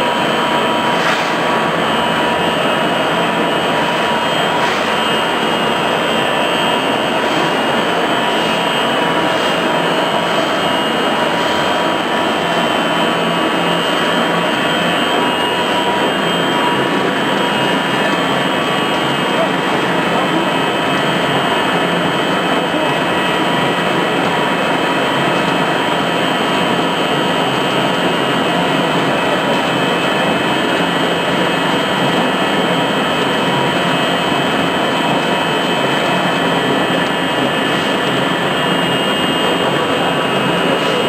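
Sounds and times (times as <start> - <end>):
pellet machine running: 0.0 - 41.0.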